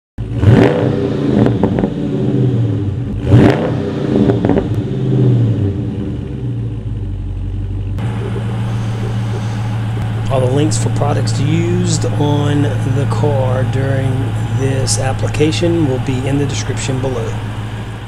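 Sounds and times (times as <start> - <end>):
engine revving and idling: 0.2 - 18.0.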